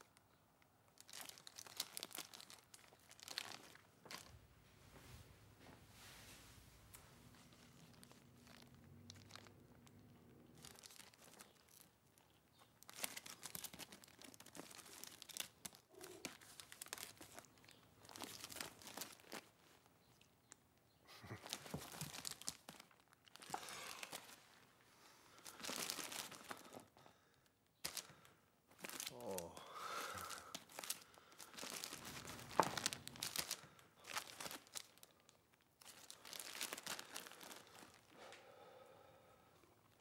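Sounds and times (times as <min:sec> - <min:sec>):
record sleeves rustling and crinkling: 0:00.9 - 0:20.6, 0:21.2 - 0:27.0, 0:27.7 - 0:29.5, 0:30.2 - 0:38.2.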